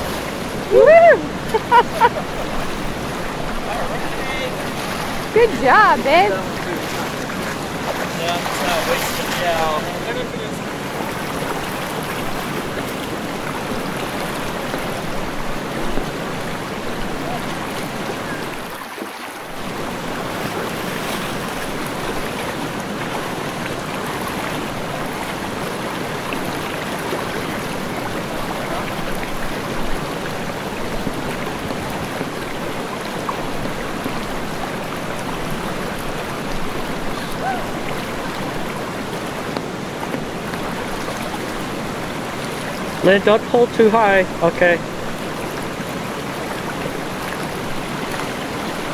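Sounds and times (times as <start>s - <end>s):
river rushing: 0.0s - 48.9s.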